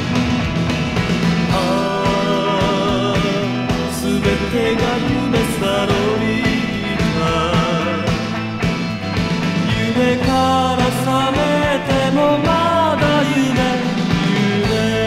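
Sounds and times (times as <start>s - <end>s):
drums beating: 0.0s - 15.0s.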